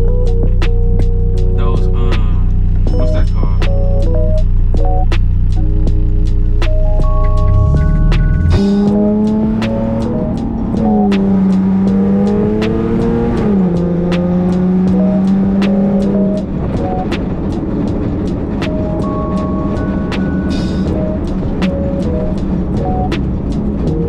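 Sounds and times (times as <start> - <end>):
background music with beat: 0.0 - 24.0
sliding bass melody: 0.0 - 24.0.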